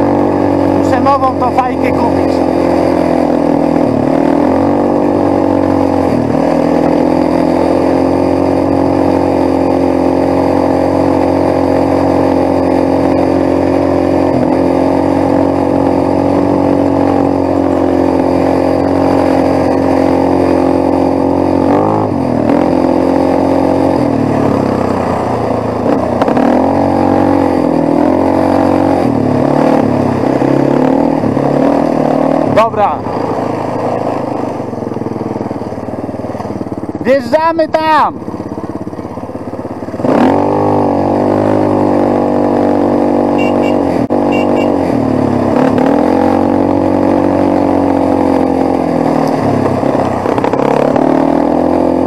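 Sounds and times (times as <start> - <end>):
quad engine running: 0.0 - 52.0.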